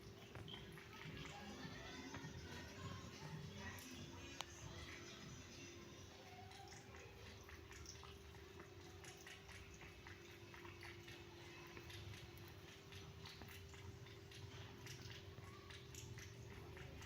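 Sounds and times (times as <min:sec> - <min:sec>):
kitten chewing and lapping: 0:00.0 - 0:17.0.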